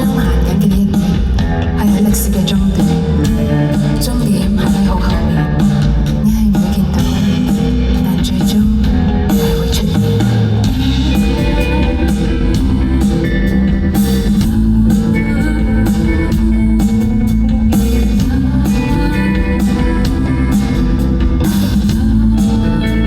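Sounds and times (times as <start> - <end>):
live band playing indie-pop: 0.0 - 23.0.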